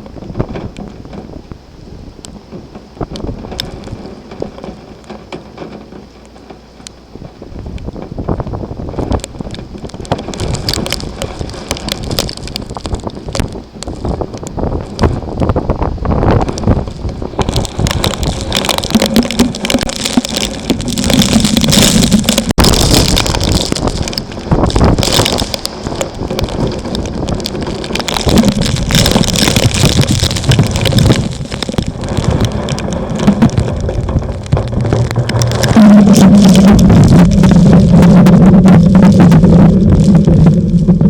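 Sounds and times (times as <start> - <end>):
rain: 0.0 - 41.0
wind buffeting microphone: 0.0 - 41.0.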